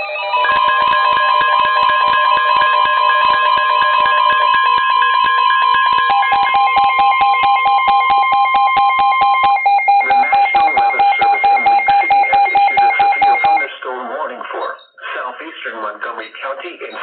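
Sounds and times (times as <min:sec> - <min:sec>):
rapid electronic beeping: 0:00.0 - 0:13.8
steady warning alarm tone: 0:00.0 - 0:13.8.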